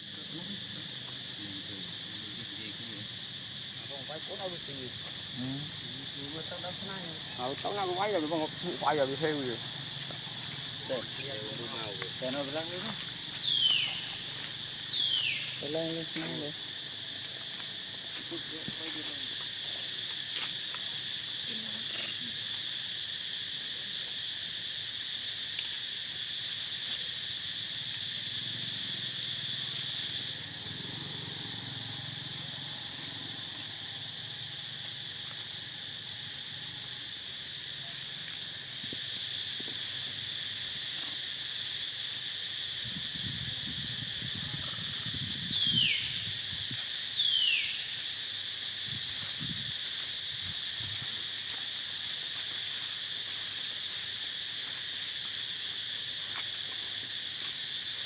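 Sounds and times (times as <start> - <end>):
crickets buzzing: 0.0 - 58.0.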